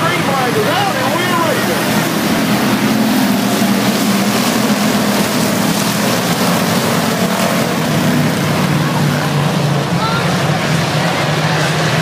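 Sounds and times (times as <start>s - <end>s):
stock car engines racing past: 0.0s - 12.0s.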